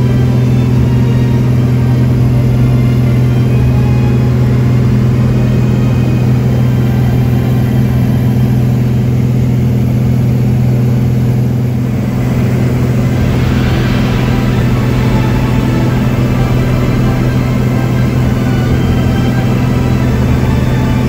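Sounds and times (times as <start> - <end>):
propeller aircraft engine droning: 0.0 - 21.0.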